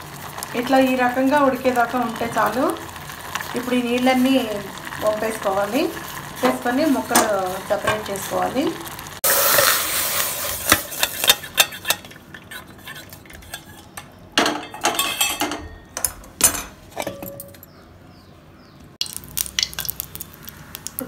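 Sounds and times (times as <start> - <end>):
steel pot and colander clinking: 0.3 - 17.8.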